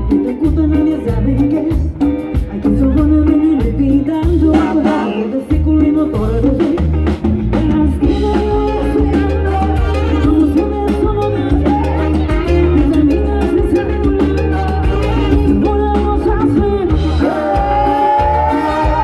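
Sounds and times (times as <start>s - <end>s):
bass line: 0.0s - 19.0s
drums: 0.0s - 19.0s
live latin band music: 0.0s - 19.0s.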